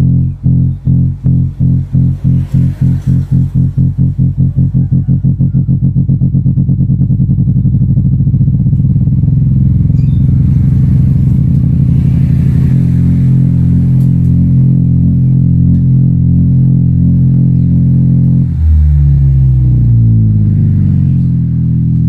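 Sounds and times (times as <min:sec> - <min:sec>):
loud bass test signal: 0:00.0 - 0:22.0.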